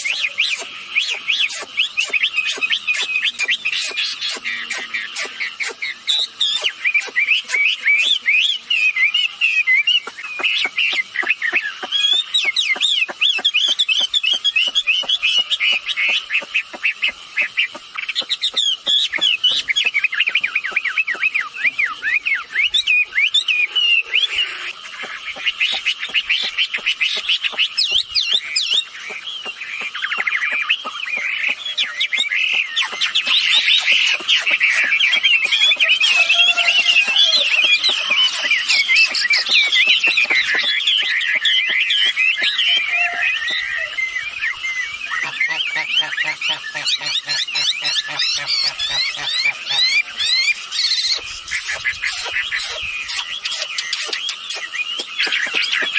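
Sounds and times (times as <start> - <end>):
bird whistled chirps: 0.0 - 55.9.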